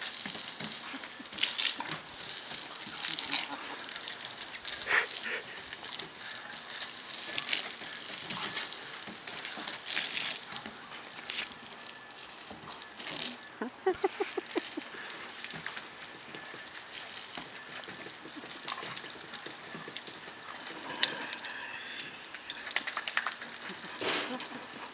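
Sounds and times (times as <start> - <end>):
hose spray splattering on wooden deck: 0.0 - 21.5, 22.3 - 24.9.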